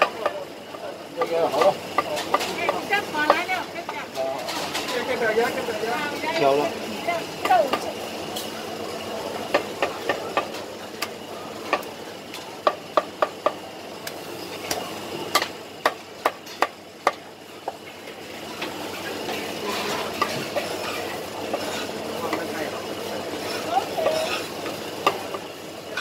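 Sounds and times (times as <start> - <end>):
busy stall noise hum: 0.0 - 26.0.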